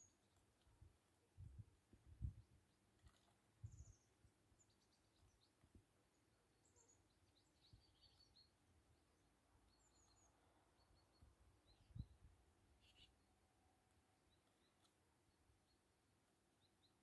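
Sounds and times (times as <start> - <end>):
songbirds chirping: 0.0 - 1.6, 2.2 - 17.0.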